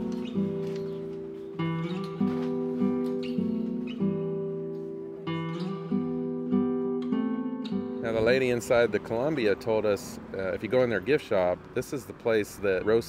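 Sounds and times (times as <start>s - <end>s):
acoustic guitar strumming chords: 0.0s - 10.7s.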